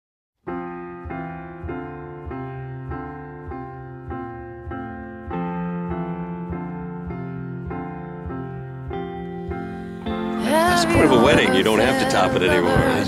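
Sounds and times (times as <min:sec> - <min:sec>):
piano chords: 0:00.4 - 0:13.0
long low piano note: 0:00.6 - 0:13.0.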